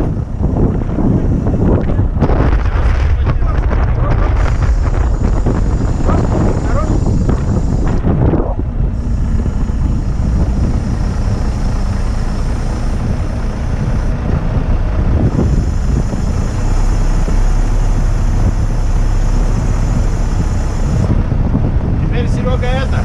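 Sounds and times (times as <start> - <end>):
truck diesel engine running: 0.0 - 23.0
wind buffeting microphone: 0.0 - 23.0.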